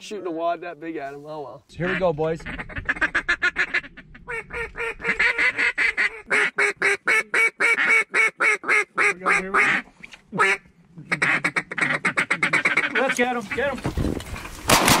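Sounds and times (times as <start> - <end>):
duck calls quacking: 1.8 - 13.9.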